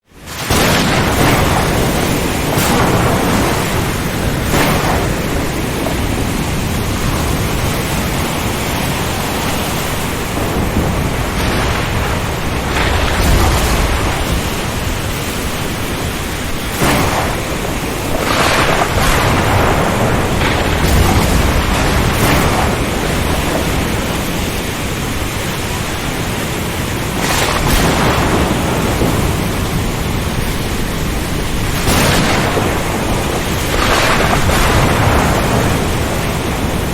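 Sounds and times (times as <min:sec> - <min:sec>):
heavy rain: 0:00.0 - 0:36.9
wind: 0:00.0 - 0:36.9
thunder cracks and rumbles: 0:00.2 - 0:36.9.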